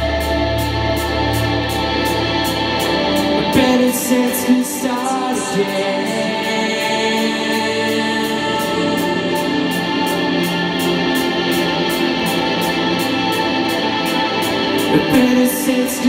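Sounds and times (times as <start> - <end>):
cymbal struck steadily: 0.0 - 16.0
live rock band playing: 0.0 - 16.0.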